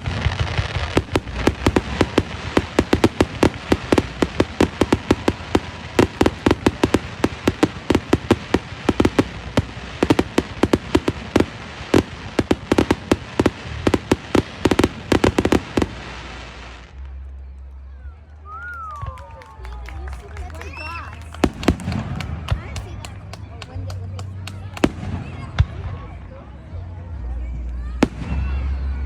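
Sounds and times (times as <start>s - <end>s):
fireworks bangs and pops: 0.0s - 17.2s, 19.0s - 26.1s, 27.8s - 29.0s.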